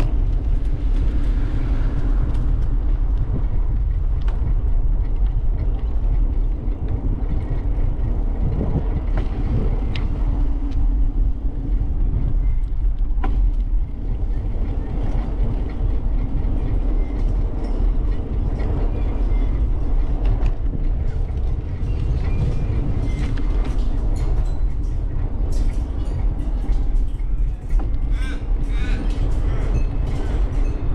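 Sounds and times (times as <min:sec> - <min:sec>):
bicycle tyres rolling on path: 0:00.0 - 0:30.9
wind buffeting microphone: 0:00.0 - 0:30.9.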